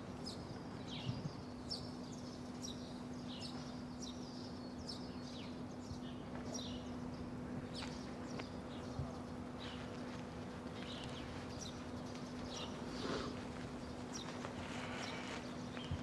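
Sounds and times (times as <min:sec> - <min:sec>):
faint steady hum: 0:00.0 - 0:16.0
small birds chirping: 0:00.0 - 0:16.0.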